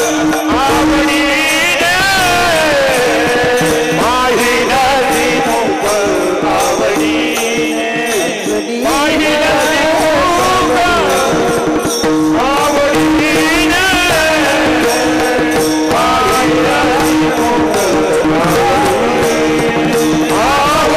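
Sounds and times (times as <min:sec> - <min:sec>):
hand drum strokes: 0:00.0 - 0:20.9
jingling cymbal rhythm: 0:00.0 - 0:20.9
person singing devotional song: 0:00.0 - 0:20.9.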